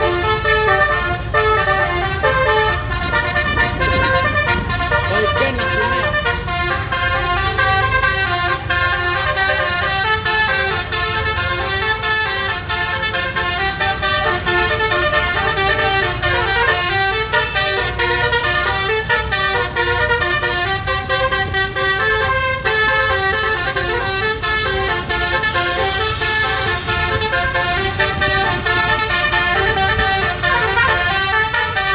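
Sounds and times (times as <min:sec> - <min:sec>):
musical air horns playing melody: 0:00.0 - 0:31.9.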